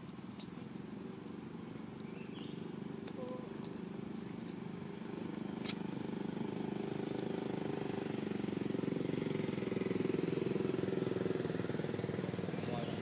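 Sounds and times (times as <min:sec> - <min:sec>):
small engine running: 0:00.7 - 0:13.0.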